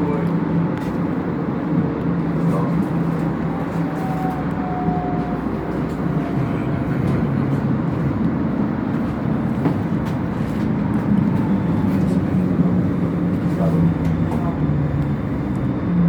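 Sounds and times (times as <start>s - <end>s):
faint tram whine: 0.0s - 16.0s
tram rumbling: 0.0s - 16.0s.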